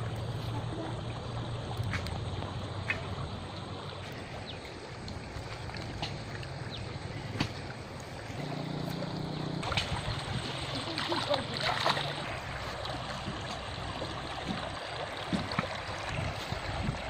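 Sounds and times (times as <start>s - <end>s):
stream running over stones: 0.0s - 17.0s.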